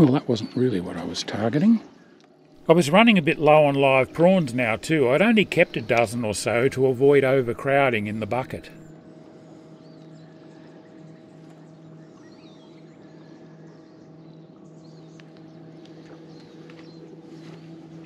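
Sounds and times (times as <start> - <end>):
small birds chirping: 0.0 - 18.0
low motor hum: 2.0 - 18.0.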